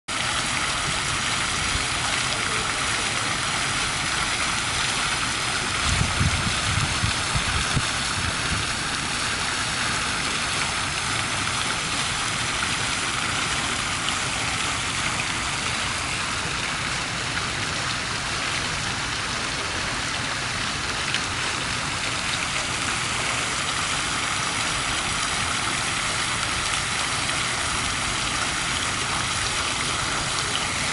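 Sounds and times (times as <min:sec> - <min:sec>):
fountain water splashing: 0:00.1 - 0:30.9.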